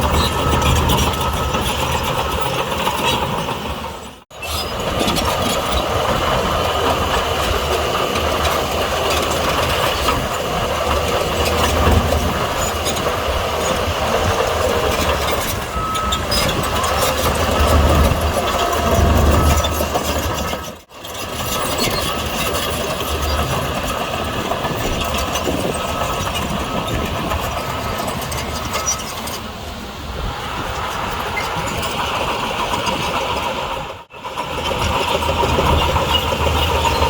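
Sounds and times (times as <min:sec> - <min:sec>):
bulldozer diesel engine clattering: 0:00.0 - 0:37.0.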